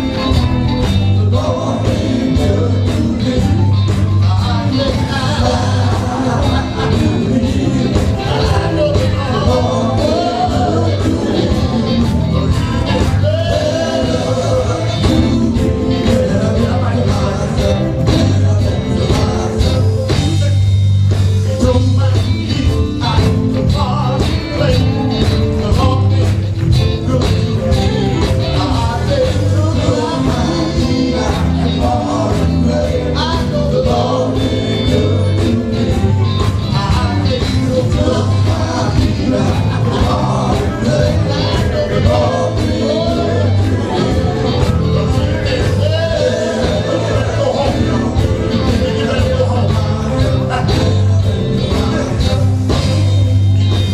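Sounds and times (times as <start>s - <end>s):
gospel band playing: 0.0s - 53.9s
person singing: 0.0s - 53.9s.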